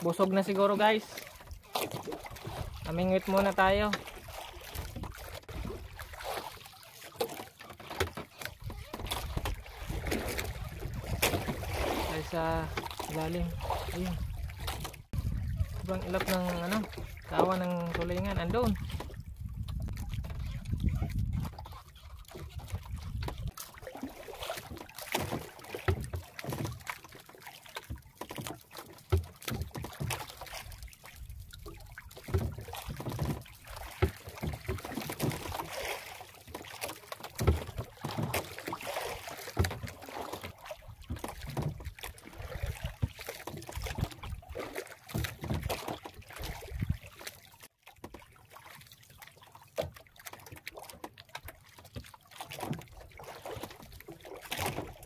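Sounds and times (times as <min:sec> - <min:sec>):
paddle splashes and knocks: 0:00.0 - 0:55.0
water lapping against hull: 0:00.0 - 0:55.0.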